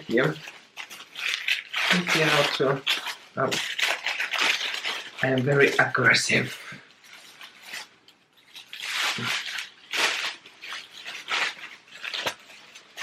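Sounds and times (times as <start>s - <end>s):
packaging tearing and rustling: 0.0s - 13.0s.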